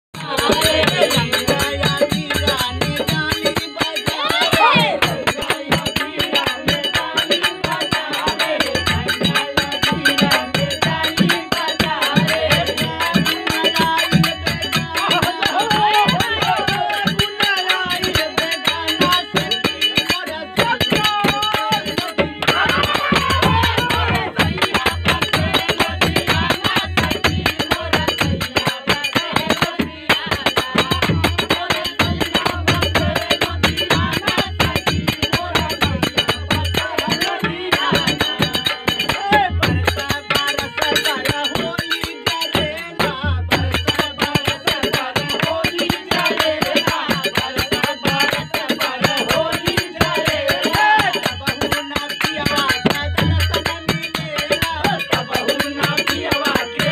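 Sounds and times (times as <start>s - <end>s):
hand drum beat: 0.2s - 56.9s
harmonium: 0.2s - 56.9s
men singing: 0.2s - 56.9s.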